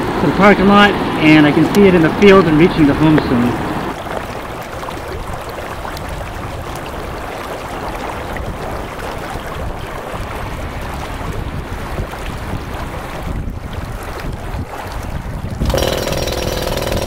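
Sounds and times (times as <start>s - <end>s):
water rushing from burst main: 0.0s - 17.0s
wind buffeting microphone: 0.0s - 17.0s.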